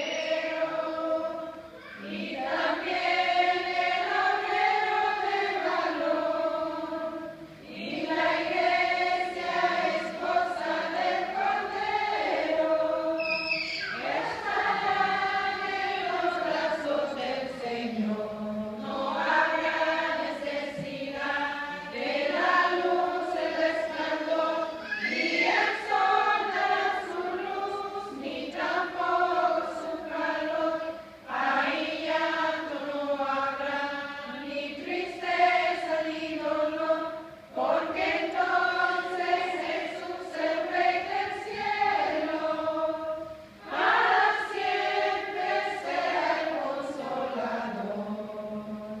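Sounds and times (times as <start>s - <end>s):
choir singing: 0.0s - 49.0s.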